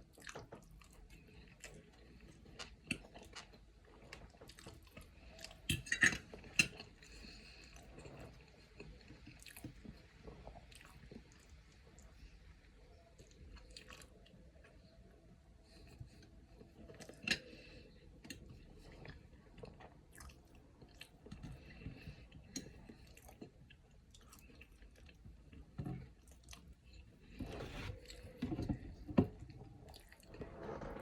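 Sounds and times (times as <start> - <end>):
person chewing food: 0.0 - 12.0, 15.6 - 29.2.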